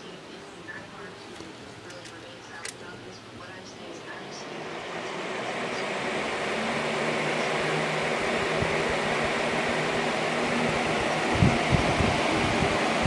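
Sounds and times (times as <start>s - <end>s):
box fan running: 0.0s - 13.0s.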